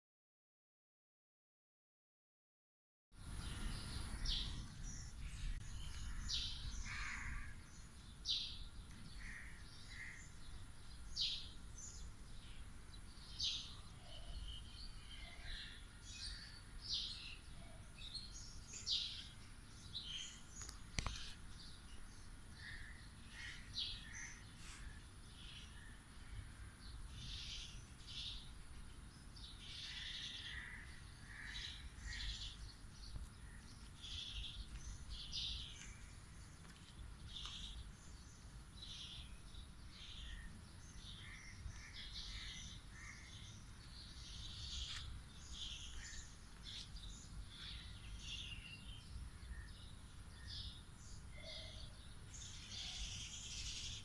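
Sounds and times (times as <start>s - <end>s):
birds chirping and calling: 3.2s - 54.0s.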